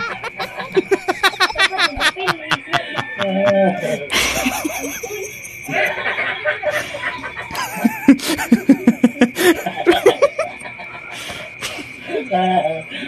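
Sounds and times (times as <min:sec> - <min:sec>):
laughter in bursts: 0:00.0 - 0:11.9.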